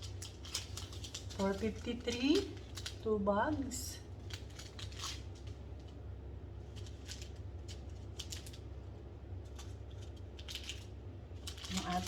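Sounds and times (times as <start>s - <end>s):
plastic bags crinkling and rattling: 0.0s - 5.9s, 6.6s - 8.8s, 9.4s - 12.0s
steady low hum: 0.0s - 12.0s.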